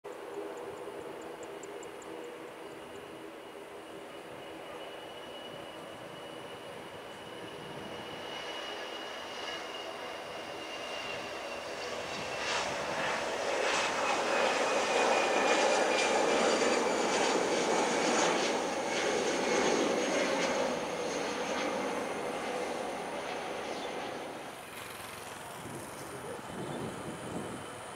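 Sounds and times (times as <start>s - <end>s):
jet engines roaring with whine: 0.1s - 27.9s.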